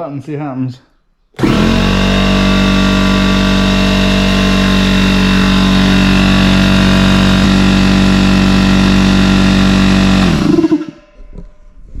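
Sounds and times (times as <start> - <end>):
compressor winding down: 1.4 - 11.0
air compressor running: 1.4 - 11.1.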